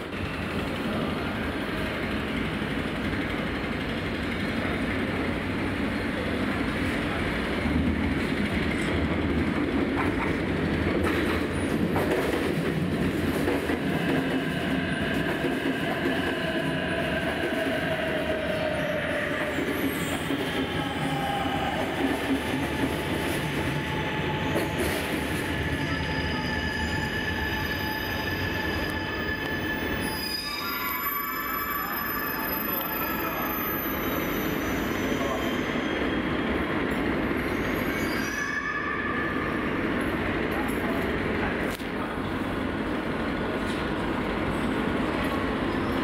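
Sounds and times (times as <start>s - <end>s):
train wheels rumbling on rails: 0.0s - 38.3s.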